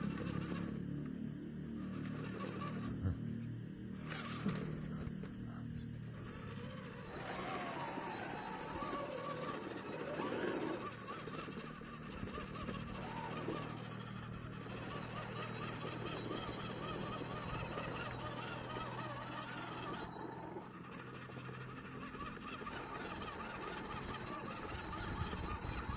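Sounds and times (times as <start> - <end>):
electric motor whine: 0.0 - 25.9
motor and gear drone: 0.0 - 25.9.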